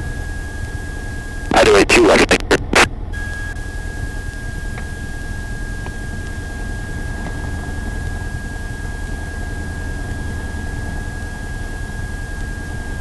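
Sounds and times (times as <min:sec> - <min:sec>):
small plane engine drone: 0:00.0 - 0:13.0.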